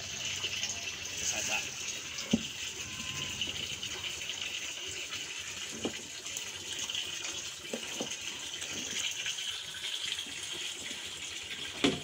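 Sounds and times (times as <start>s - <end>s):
water pouring into a tub: 0.0s - 12.0s.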